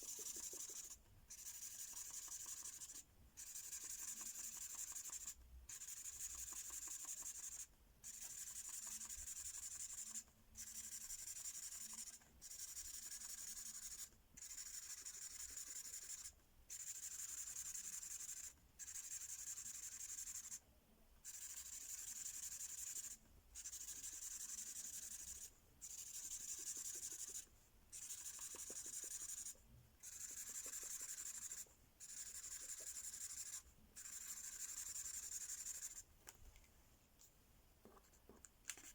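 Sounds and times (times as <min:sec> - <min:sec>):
marker scribbling on paper: 0:00.0 - 0:20.6, 0:21.3 - 0:36.0.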